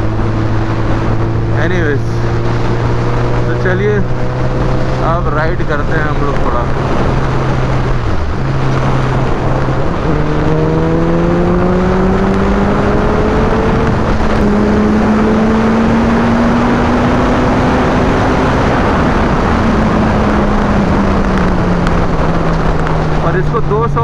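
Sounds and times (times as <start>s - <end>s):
motorcycle engine pulling hard: 0.0s - 24.0s
wind rush: 0.0s - 24.0s.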